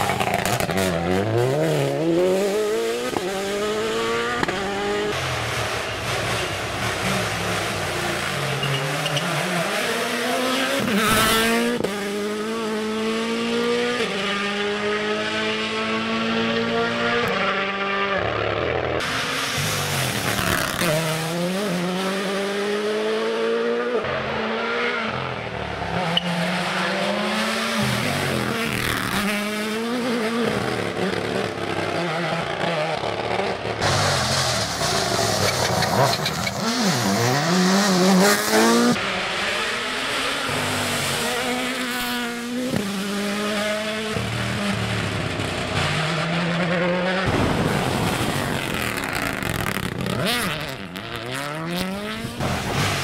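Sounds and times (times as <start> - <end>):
rally car engine at full throttle: 0.0 - 53.0.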